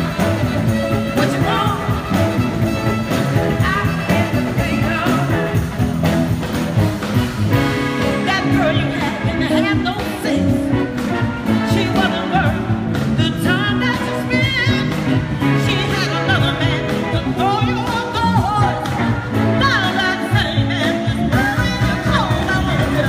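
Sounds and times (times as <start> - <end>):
live soul band playing: 0.0 - 23.0.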